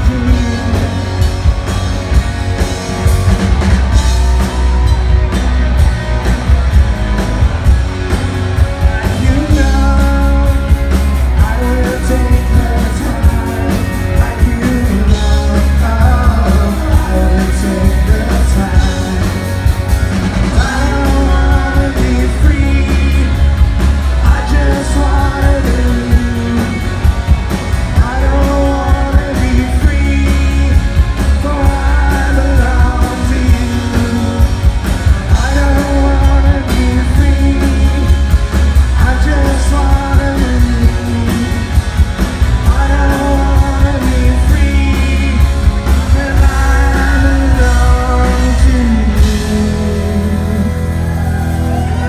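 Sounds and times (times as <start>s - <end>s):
lead vocal singing: 0.0s - 1.5s, 8.7s - 27.1s, 27.8s - 52.0s
drums: 0.0s - 52.0s
electric bass: 0.0s - 52.0s
electric guitars: 0.0s - 52.0s.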